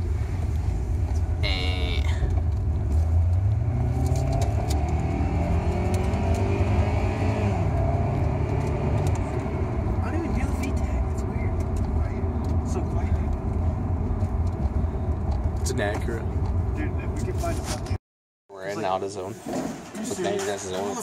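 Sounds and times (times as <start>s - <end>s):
car engine accelerating: 0.0s - 18.0s
road rumble: 0.0s - 18.0s.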